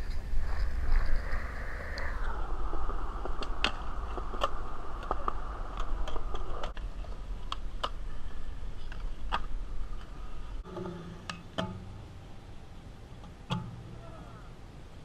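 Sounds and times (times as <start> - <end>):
skateboard wheels rolling on concrete: 0.0 - 12.1.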